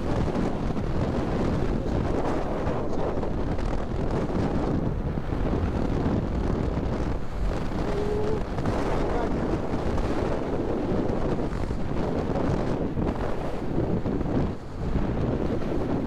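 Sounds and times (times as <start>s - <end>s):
motorcycle road and engine noise: 0.0s - 16.0s
wind buffeting microphone: 0.0s - 16.0s.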